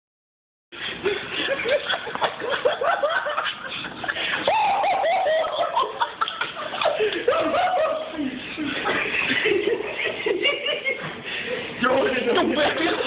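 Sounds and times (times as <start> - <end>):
young men laughing: 0.8 - 13.0.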